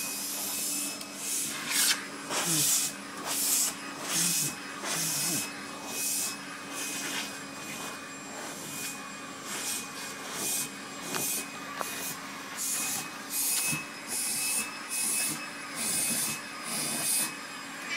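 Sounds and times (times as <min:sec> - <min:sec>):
vacuum cleaner humming: 0:00.0 - 0:17.9.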